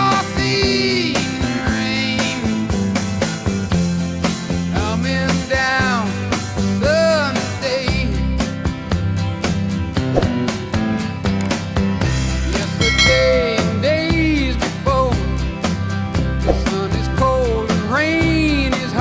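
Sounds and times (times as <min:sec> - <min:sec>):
music with steady beat and melody: 0:00.0 - 0:19.0.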